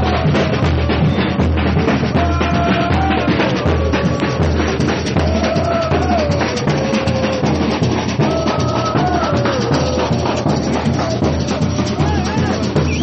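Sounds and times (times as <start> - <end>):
samba drums beat: 0.0 - 13.0.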